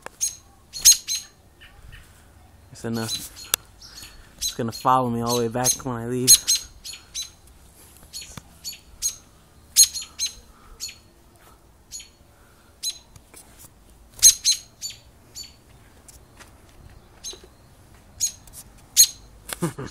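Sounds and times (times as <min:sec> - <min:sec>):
small bird chip calls: 0:00.0 - 0:11.1, 0:11.9 - 0:12.2, 0:12.8 - 0:13.1, 0:14.2 - 0:19.3.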